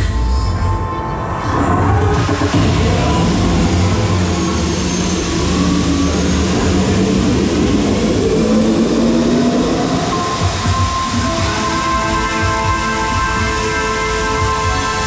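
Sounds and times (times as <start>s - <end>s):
held synth tones: 0.0s - 15.0s
low drone with rushing noise: 0.0s - 15.0s.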